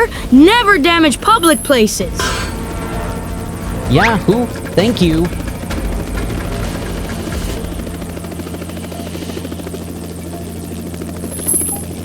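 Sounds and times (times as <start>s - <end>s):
mechanical drone with low hum: 0.0s - 12.0s.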